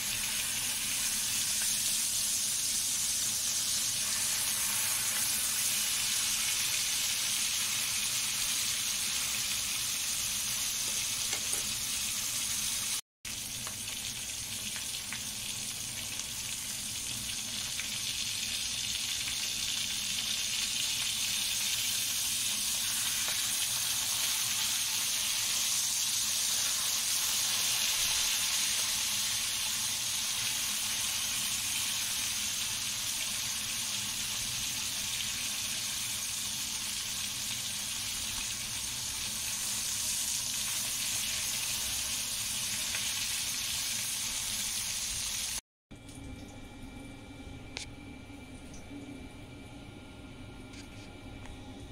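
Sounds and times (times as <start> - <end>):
steaks sizzling in butter: 0.0 - 45.6.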